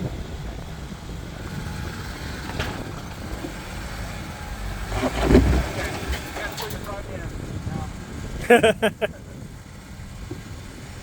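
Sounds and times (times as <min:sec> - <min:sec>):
engine running low and steady: 0:00.0 - 0:11.0.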